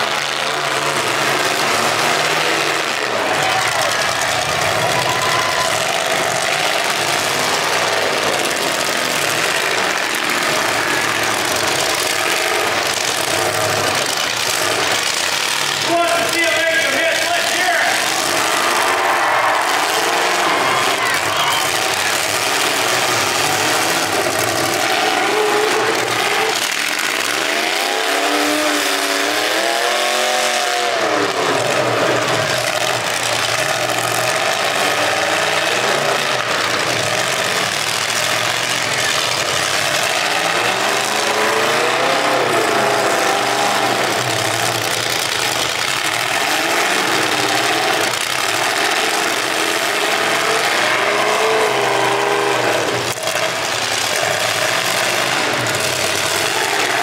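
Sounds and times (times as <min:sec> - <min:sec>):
car engines revving: 0:00.0 - 0:57.0
din of engines running: 0:00.0 - 0:57.0.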